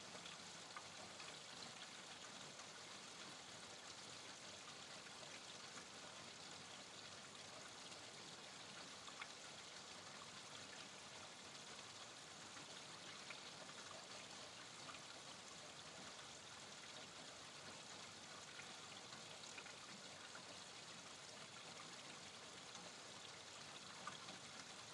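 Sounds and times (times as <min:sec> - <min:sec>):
steady rain hiss: 0:00.0 - 0:24.9.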